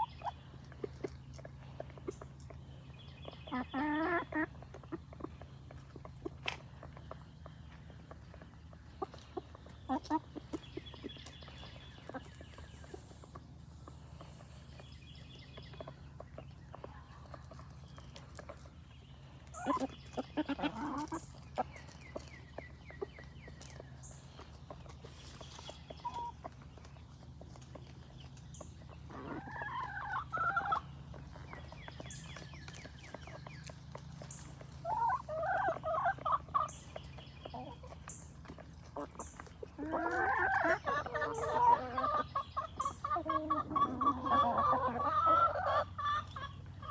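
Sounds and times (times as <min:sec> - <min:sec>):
chickens calling: 0:00.0 - 0:46.9.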